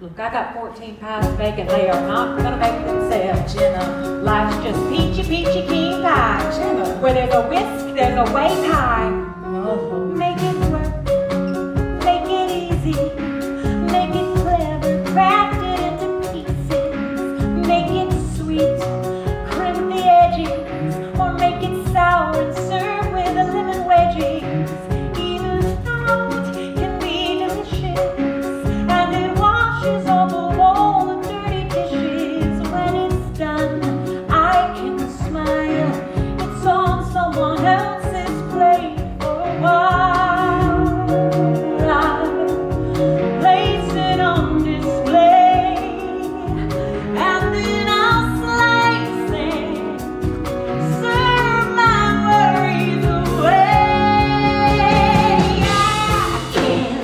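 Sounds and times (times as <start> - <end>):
woman singing: 0.8 - 11.2, 12.0 - 57.0
live band with steady beat: 1.2 - 57.0.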